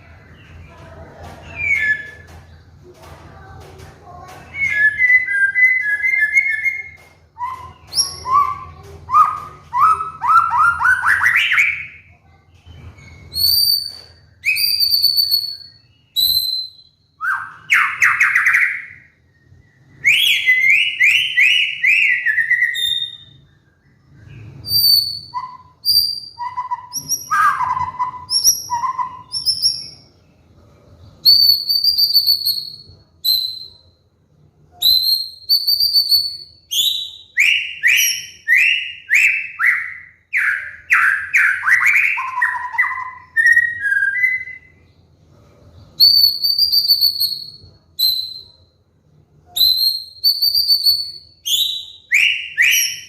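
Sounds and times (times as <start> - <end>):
bird singing whistled phrases: 1.4 - 2.3, 4.4 - 12.1, 12.7 - 30.0, 31.2 - 34.0, 34.8 - 44.8, 46.0 - 48.6, 49.4 - 53.0.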